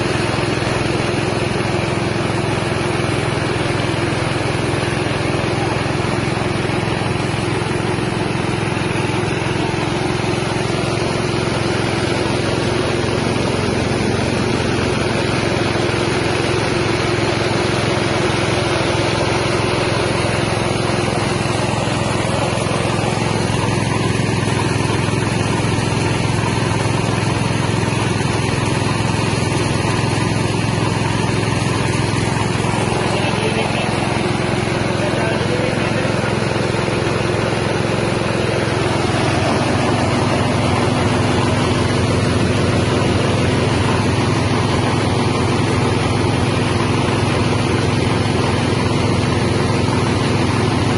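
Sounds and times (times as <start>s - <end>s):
rice milling machine running: 0.0s - 50.9s.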